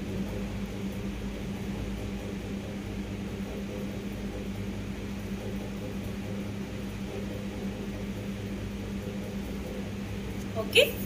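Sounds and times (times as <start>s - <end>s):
air noise from fan: 0.0s - 11.0s
ceiling fan humming: 0.0s - 11.0s.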